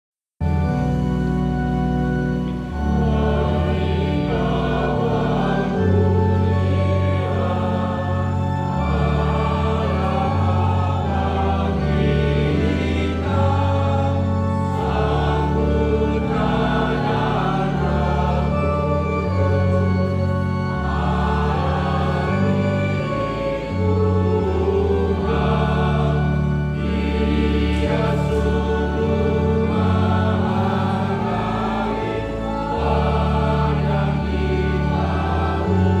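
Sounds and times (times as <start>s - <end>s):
choir singing a hymn: 0.5s - 36.0s
long held low accompaniment notes: 0.5s - 36.0s.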